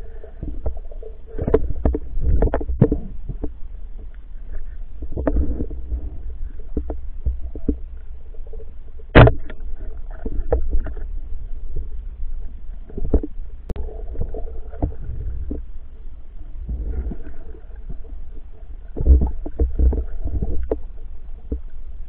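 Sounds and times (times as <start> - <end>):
low underwater rumble: 0.0 - 22.0
underwater knocks and clicks: 0.3 - 15.8, 16.6 - 21.8.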